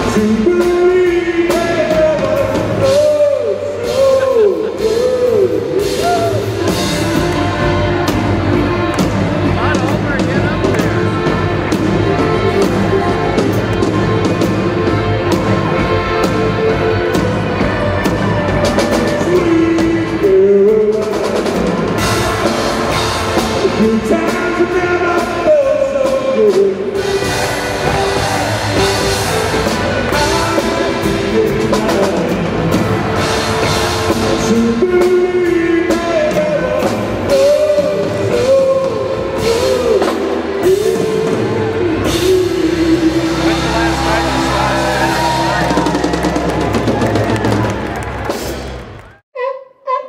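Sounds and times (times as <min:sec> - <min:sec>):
person singing: 0:00.0 - 0:46.7
steady drum beat: 0:00.0 - 0:49.0.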